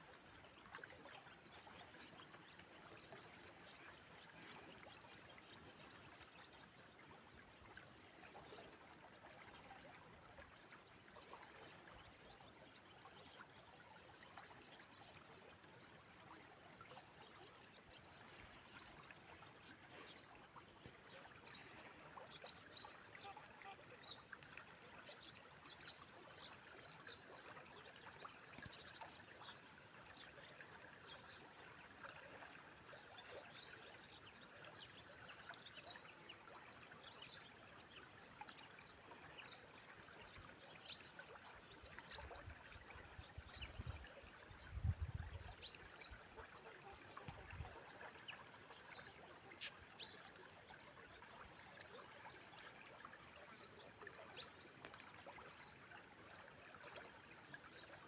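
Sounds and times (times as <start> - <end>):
river running: 0.0 - 58.0.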